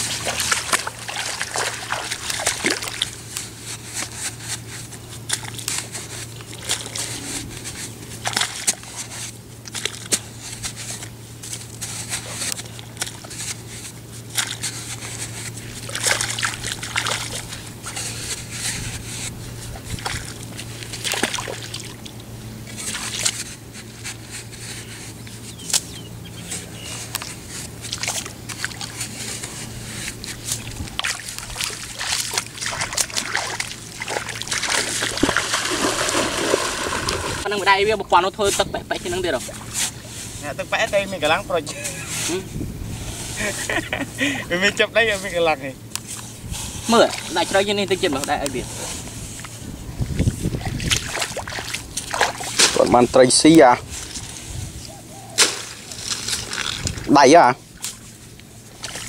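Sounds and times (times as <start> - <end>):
water sloshing and trickling: 0.0 - 25.7, 26.3 - 42.2, 42.9 - 59.0
wet mud squelching: 0.0 - 42.4, 45.9 - 59.0.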